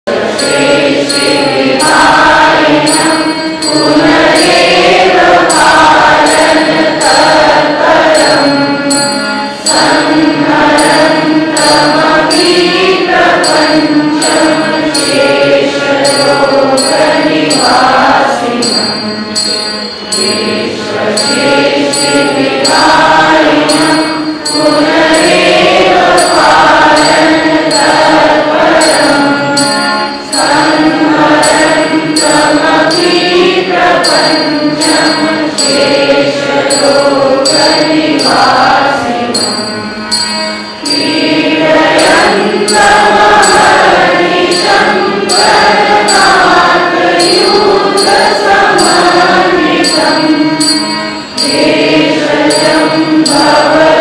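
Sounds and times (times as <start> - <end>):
group of voices chanting: 0.0 - 19.0, 20.1 - 39.7, 40.8 - 54.0
steady percussion beat: 0.2 - 54.0.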